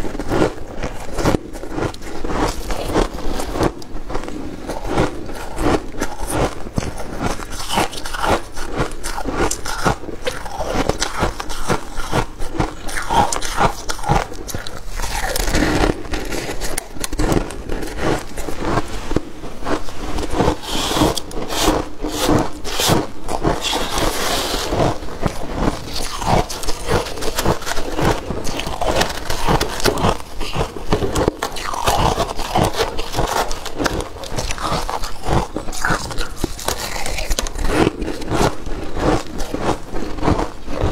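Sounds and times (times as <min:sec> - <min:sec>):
frost being chewed: 0:00.0 - 0:40.9.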